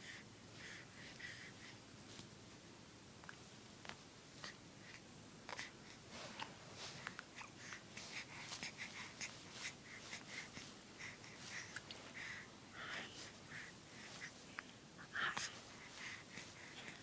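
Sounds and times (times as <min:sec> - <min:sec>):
baby breathing faintly: 0:00.0 - 0:02.0, 0:04.4 - 0:17.0.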